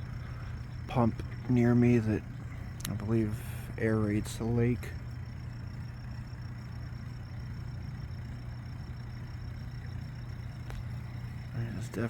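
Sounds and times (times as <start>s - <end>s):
aeration pump humming: 0.0s - 12.0s
faint high steady tone: 0.0s - 12.0s.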